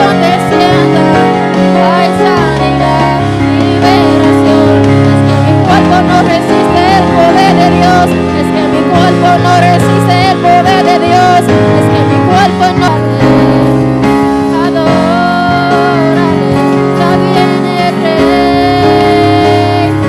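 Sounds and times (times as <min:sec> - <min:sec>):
electric bass guitar: 0:00.0 - 0:20.0
electric keyboard chords: 0:00.0 - 0:20.0
person singing with vibrato: 0:00.0 - 0:20.0.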